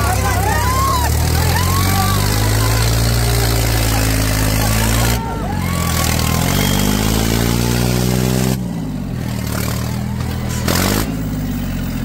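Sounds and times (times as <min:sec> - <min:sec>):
diesel tractor engine revving: 0:00.0 - 0:12.0.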